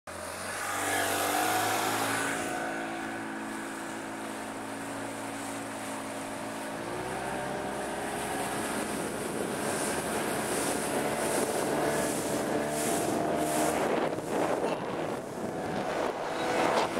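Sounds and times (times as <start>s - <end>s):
outboard motor running: 0.1s - 16.9s.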